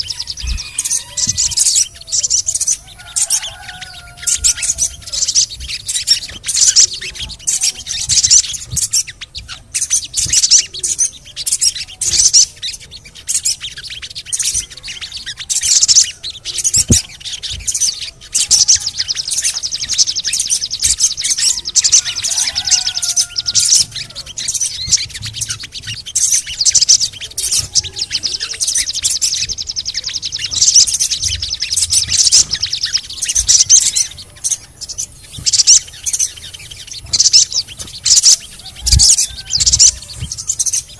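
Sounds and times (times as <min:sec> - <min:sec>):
birds chirping and chattering: 0:00.0 - 0:40.9.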